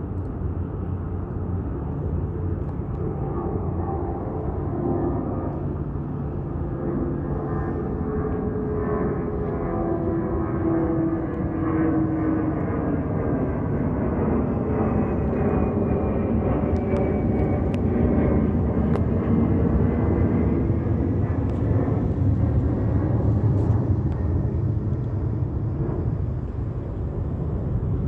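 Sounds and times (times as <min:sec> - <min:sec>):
jet engine rumble: 0:00.0 - 0:28.0
jet engine whine: 0:00.0 - 0:28.0.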